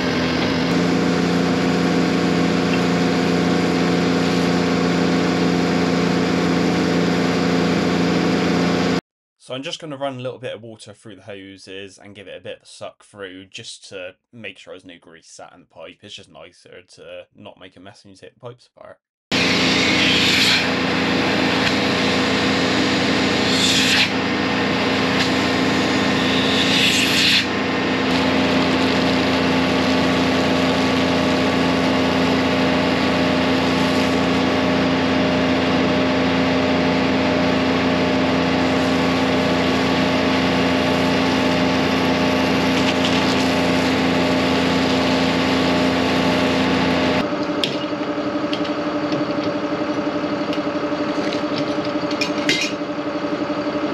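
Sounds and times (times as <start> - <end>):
tanker engine and vacuum pump: 0.0 - 9.0, 19.3 - 53.9.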